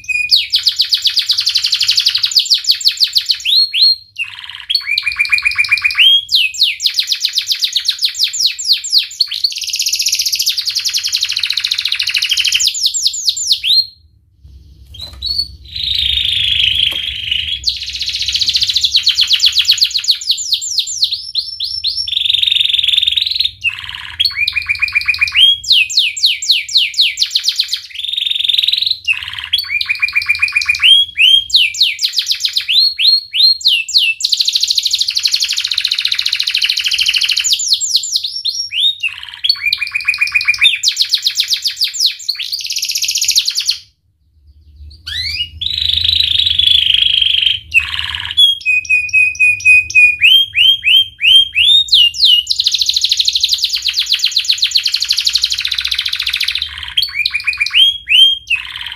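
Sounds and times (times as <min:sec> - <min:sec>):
canary singing trills: 0:00.0 - 0:14.1, 0:14.9 - 0:58.9.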